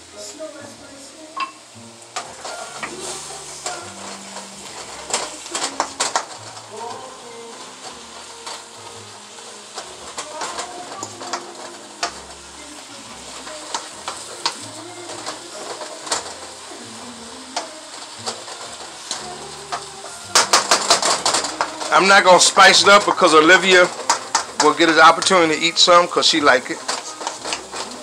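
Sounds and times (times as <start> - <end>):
food sizzling in a pan: 0.0 - 28.0
spatula scraping a pan: 2.2 - 28.0.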